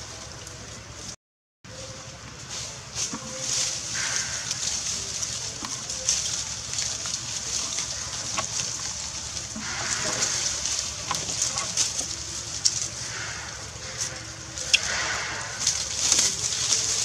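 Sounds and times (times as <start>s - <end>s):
dry leaves crackling and rustling: 0.0s - 17.0s.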